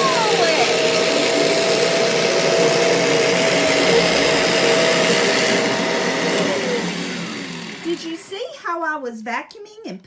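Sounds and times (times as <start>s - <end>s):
vacuum cleaner whining: 0.0s - 8.6s.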